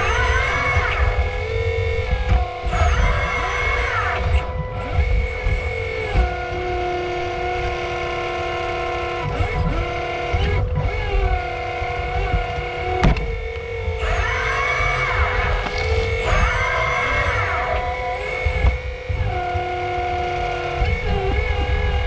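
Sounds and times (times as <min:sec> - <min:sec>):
hydraulic pump whining: 0:00.0 - 0:22.0.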